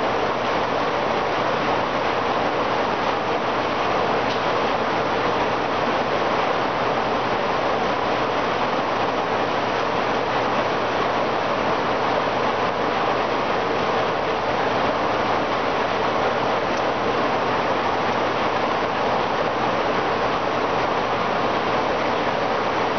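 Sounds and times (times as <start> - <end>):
aquarium water circulating: 0.0 - 22.9.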